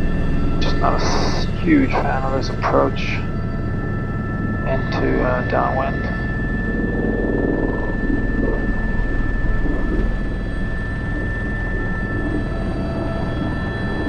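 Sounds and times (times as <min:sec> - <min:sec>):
helicopter rotor and turbine: 0:00.0 - 0:14.0
high steady whine: 0:00.0 - 0:14.0
steady tones: 0:00.0 - 0:14.0.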